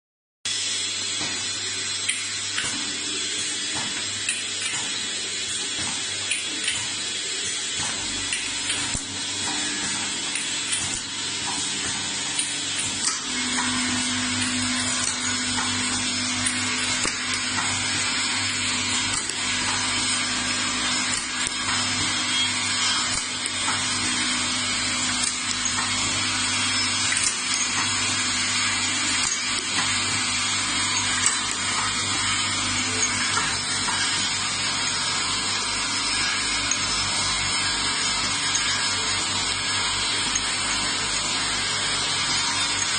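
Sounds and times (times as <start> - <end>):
machine motor hum and hiss: 0.5 - 42.9.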